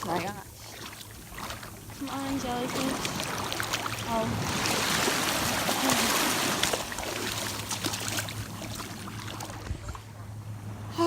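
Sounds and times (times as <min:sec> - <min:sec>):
low steady hum: 0:00.0 - 0:11.0
ocean surf washing: 0:00.0 - 0:11.0.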